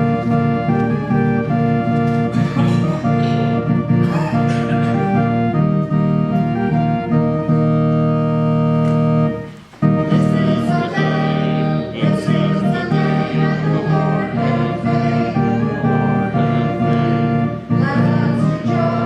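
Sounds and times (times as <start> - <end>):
organ playing a hymn: 0.0 - 19.0.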